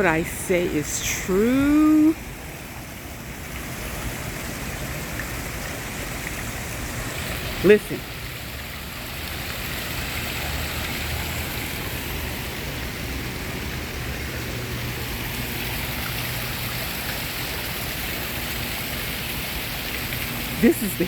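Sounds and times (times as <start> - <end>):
running water: 0.0 - 21.0.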